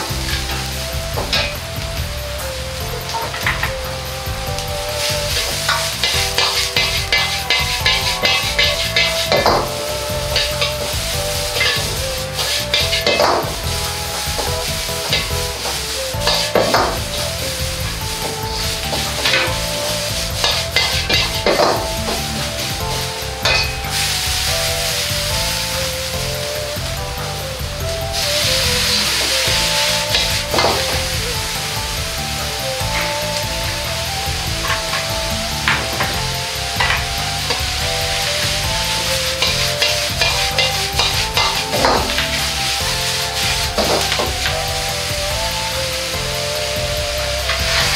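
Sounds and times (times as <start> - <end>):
background music: 0.0 - 47.9
vegetables sizzling in a wok: 0.0 - 47.9
metal ladle scraping a wok: 4.5 - 26.9, 28.2 - 45.1.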